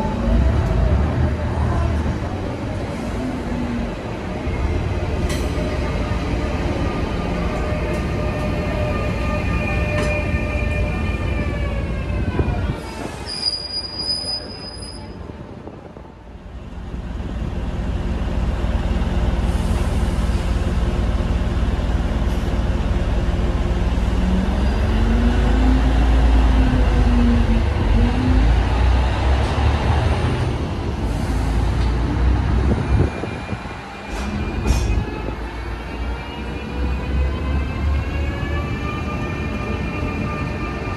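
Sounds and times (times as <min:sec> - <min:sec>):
diesel train rumbling: 0:00.0 - 0:40.9.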